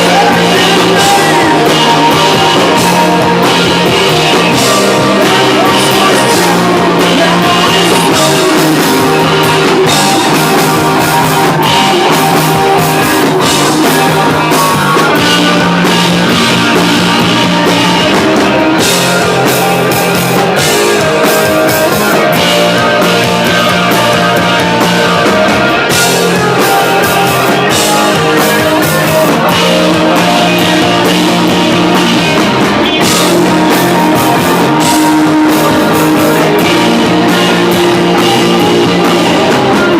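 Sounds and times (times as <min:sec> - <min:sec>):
live punk rock band playing: 0:00.0 - 0:39.9.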